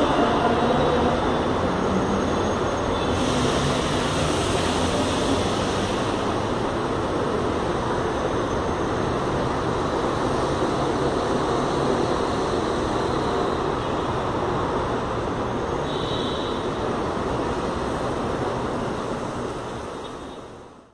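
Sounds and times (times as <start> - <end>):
electric train wheels rumbling: 0.0 - 20.0.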